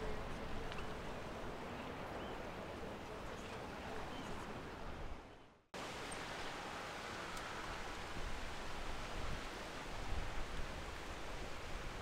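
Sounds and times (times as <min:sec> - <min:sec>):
riverside background hiss: 0:00.0 - 0:12.0.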